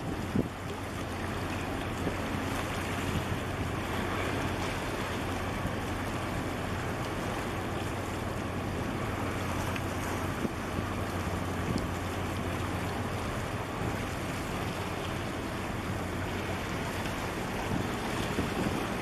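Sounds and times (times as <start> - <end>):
ship engine low rumble: 0.0 - 19.0
water washing: 0.0 - 19.0
wind: 0.0 - 19.0.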